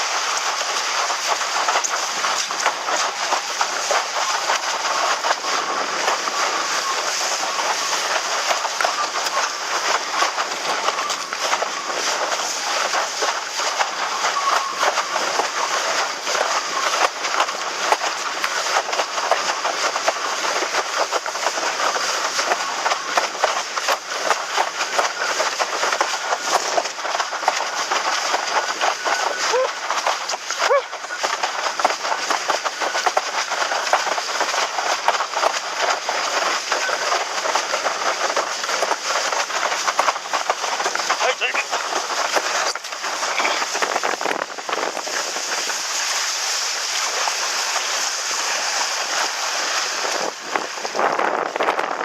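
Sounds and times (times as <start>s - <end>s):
board slapping on water: 0.0s - 51.9s
rush of water and wind: 0.0s - 52.0s.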